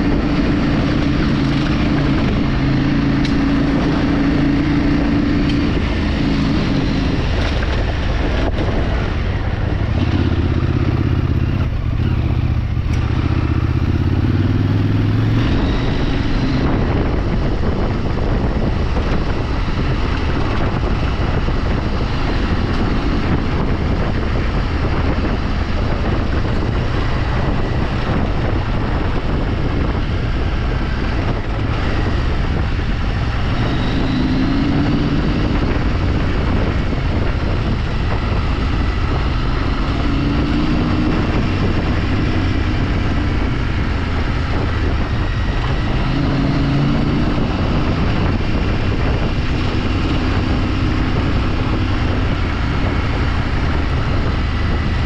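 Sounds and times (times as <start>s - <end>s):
motorcycle engine: 0.0s - 55.0s
wind and road noise: 0.0s - 55.0s.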